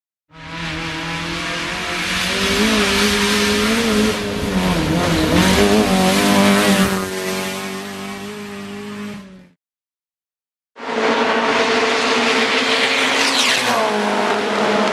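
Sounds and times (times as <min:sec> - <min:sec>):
rally car engine revving past: 0:00.4 - 0:09.5, 0:10.8 - 0:14.9.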